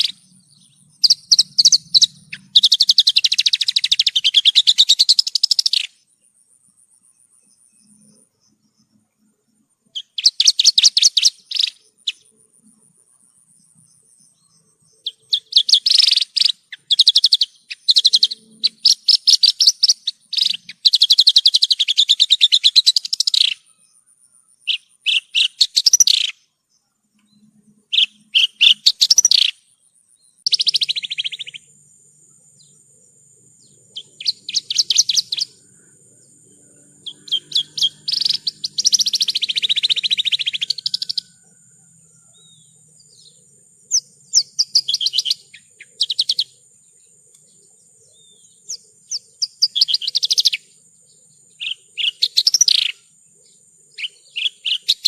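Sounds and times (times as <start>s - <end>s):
lark chirping song: 0.0s - 55.0s.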